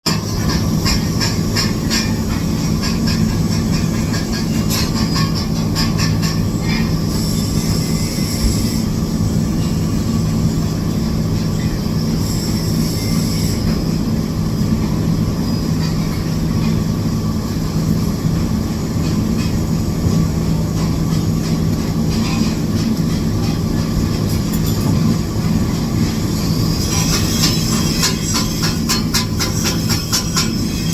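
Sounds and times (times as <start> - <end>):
welding arc hiss and crackle: 0.1 - 9.5, 10.2 - 30.9.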